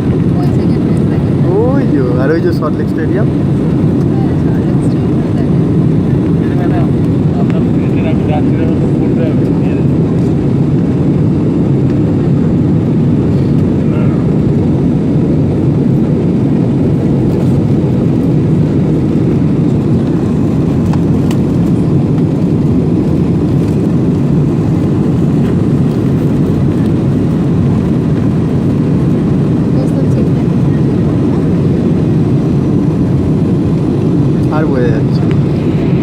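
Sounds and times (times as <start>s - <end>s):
airliner cabin engine rumble: 0.0s - 36.0s.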